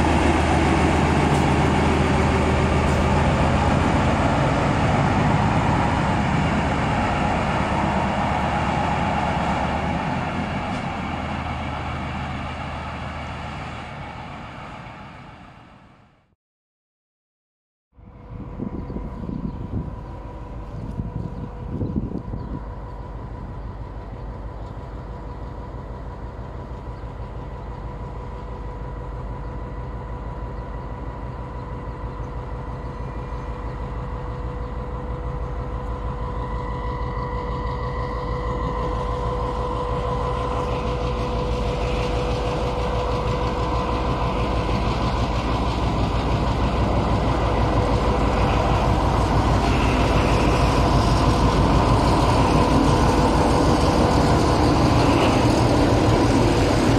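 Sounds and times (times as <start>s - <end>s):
diesel locomotive engine drone: 0.0s - 16.4s, 17.9s - 56.9s.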